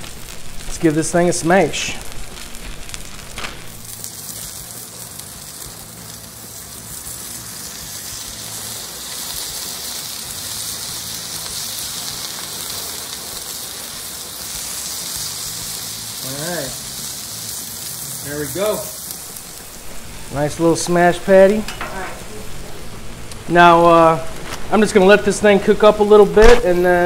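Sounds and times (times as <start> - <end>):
burger patty sizzling on griddle: 0.0 - 27.0
rain falling: 0.0 - 27.0.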